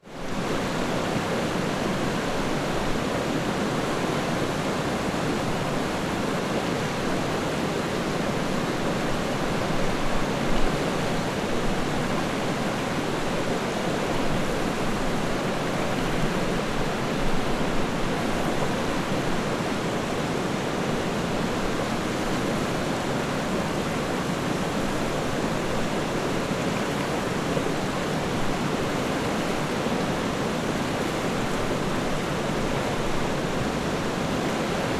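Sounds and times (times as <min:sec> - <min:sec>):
river water flowing: 0:00.2 - 0:34.9.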